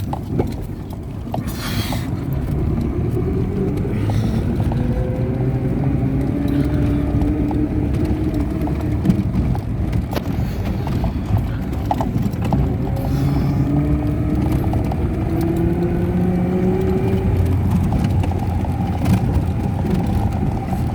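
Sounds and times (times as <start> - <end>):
vehicle engine running: 0.0 - 20.9
knocks and rattles: 2.2 - 20.9.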